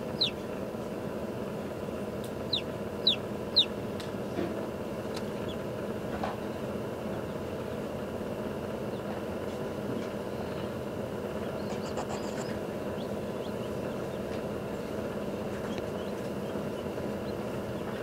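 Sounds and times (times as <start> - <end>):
incubator fan whirring: 0.0 - 18.0.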